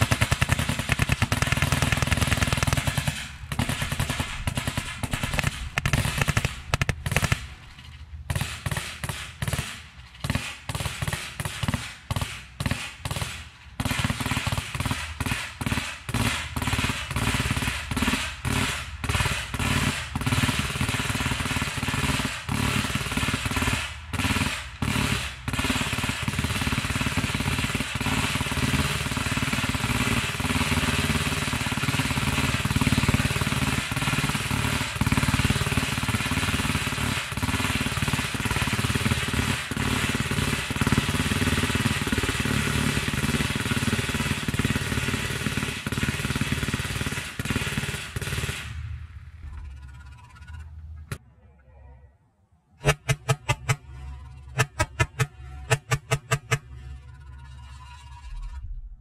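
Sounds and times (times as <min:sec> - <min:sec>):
pellet machine gun firing: 0:00.0 - 0:07.6, 0:08.2 - 0:49.0, 0:52.8 - 0:53.9, 0:54.5 - 0:56.8.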